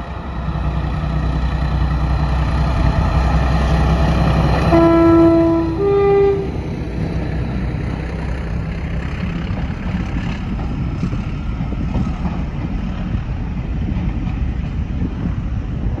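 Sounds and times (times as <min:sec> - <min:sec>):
diesel locomotive engine: 0:00.0 - 0:16.0
train carriages rumbling past: 0:00.0 - 0:16.0.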